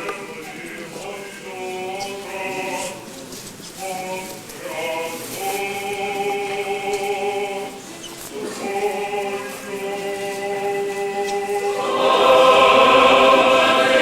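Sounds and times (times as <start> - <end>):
choir singing unaccompanied: 0.0 - 14.0.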